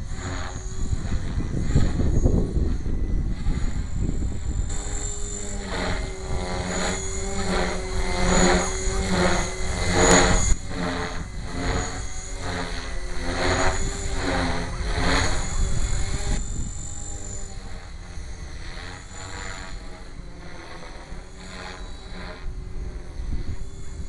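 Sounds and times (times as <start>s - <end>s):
high electric motor whine: 0.0s - 24.0s
rc helicopter rotor noise: 0.0s - 24.0s.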